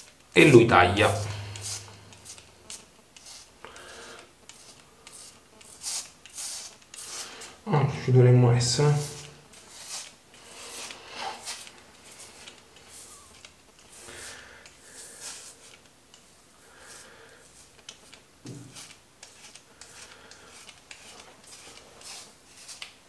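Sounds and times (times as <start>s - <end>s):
razor scraping scalp: 1.0s - 3.6s, 4.5s - 7.6s, 8.9s - 15.8s, 16.8s - 23.0s.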